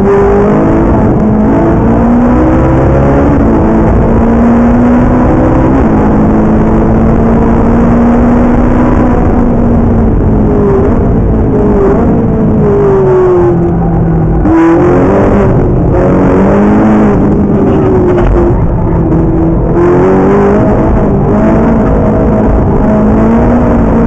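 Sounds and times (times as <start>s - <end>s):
car engine from inside cabin: 0.0s - 24.0s.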